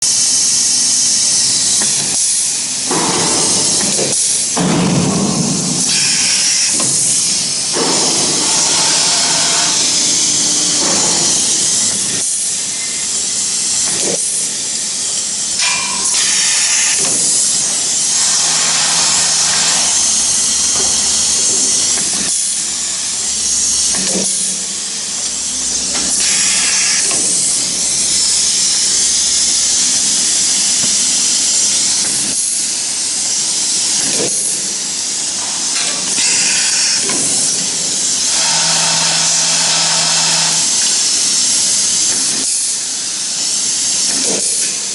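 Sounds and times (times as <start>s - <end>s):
cnc router high-pitched hiss: 0.0s - 44.9s.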